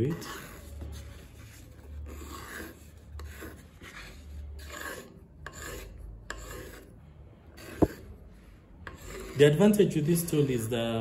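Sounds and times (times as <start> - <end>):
pencil scratching on wood: 0.0 - 6.9, 7.5 - 10.7.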